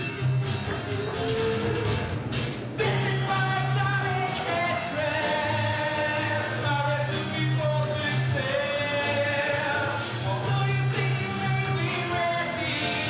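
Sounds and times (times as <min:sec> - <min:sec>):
band backing: 0:00.0 - 0:13.0.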